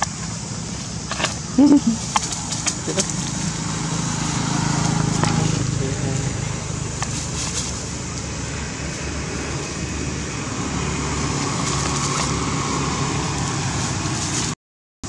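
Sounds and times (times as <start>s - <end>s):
low rumble of distant traffic: 0.0s - 14.6s.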